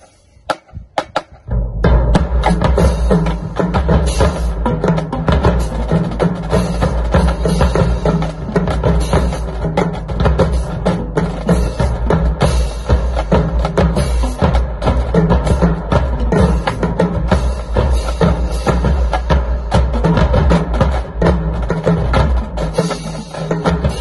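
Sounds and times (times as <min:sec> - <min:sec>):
snare and tenor drums: 0:00.0 - 0:24.0
marching cymbals crashing: 0:02.2 - 0:24.0.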